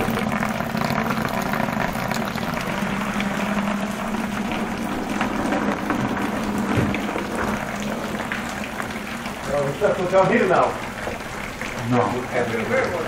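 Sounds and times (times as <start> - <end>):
low steady hum: 0.0 - 11.9
water streaming and splashing: 0.0 - 13.0.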